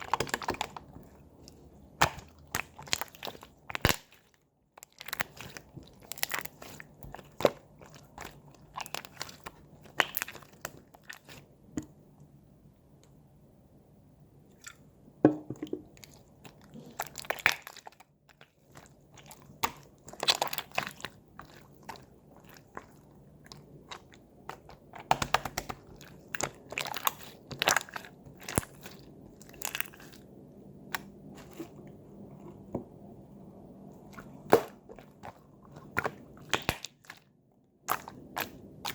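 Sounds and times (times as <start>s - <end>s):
slime squished by hand: 0.0s - 11.5s, 15.8s - 32.7s, 33.7s - 38.9s.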